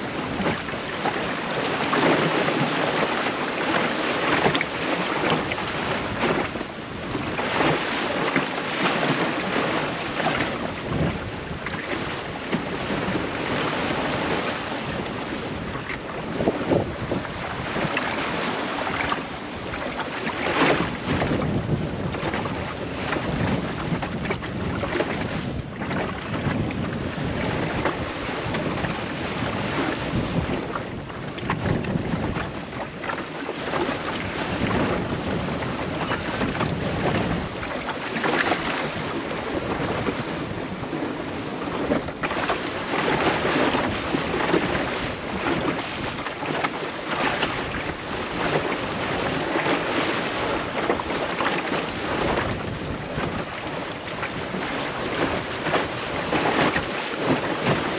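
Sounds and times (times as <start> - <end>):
sea water slapping hull: 0.0 - 57.9
wind buffeting microphone: 0.0 - 57.9.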